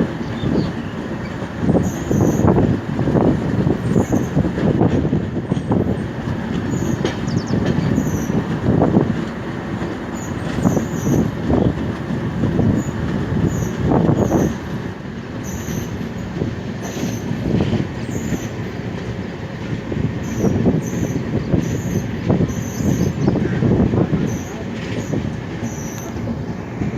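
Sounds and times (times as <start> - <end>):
train wheels rumbling on track: 0.0 - 26.9.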